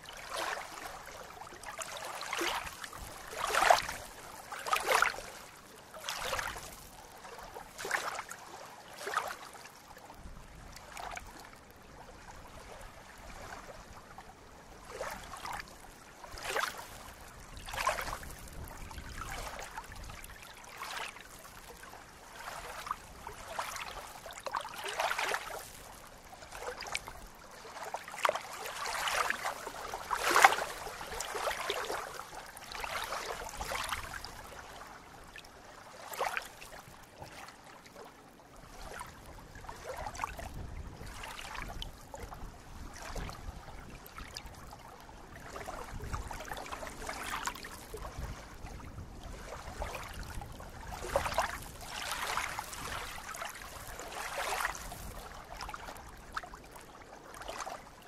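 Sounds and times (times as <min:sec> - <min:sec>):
water lapping among reeds: 0:00.0 - 0:58.0.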